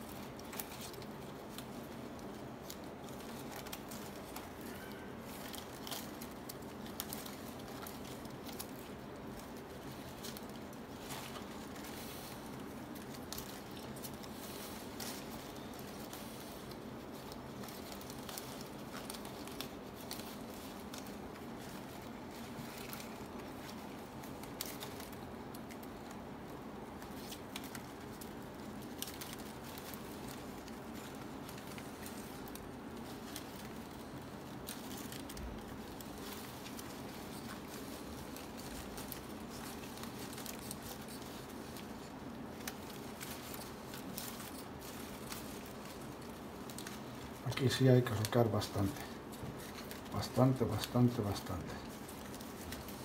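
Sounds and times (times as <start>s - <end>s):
palm leaf strips rustling: 0.0s - 53.0s.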